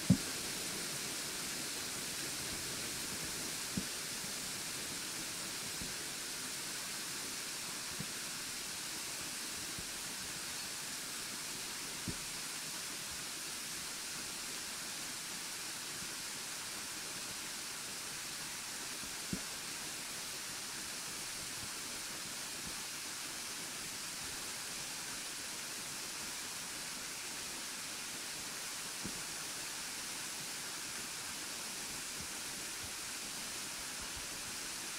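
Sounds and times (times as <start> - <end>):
waterfall falling onto rocks: 0.0 - 34.9.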